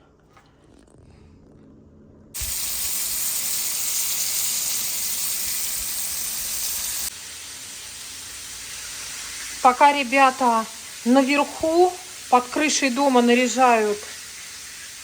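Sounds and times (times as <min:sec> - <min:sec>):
fish sizzling in hot oil: 0:02.4 - 0:15.0.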